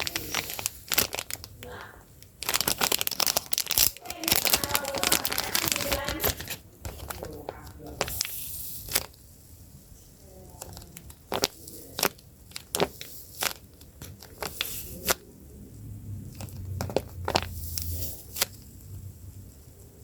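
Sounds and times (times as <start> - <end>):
paper and tape crinkling: 0.0 - 9.3, 10.4 - 15.2, 16.2 - 18.9.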